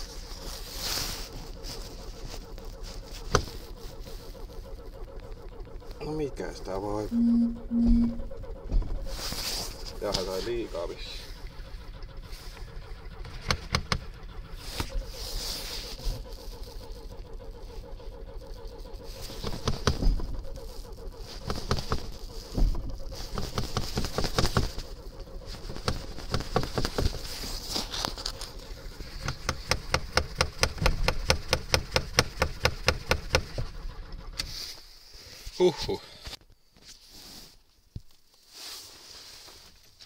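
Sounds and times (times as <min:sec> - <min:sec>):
car engine cranking and sputtering: 0:00.0 - 0:36.4.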